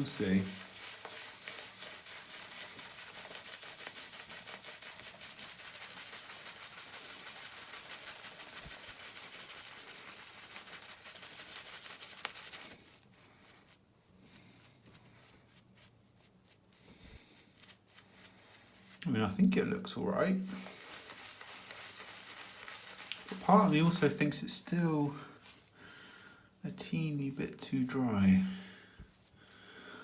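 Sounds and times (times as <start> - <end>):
shaving brush swishing lather: 0.0 - 25.8.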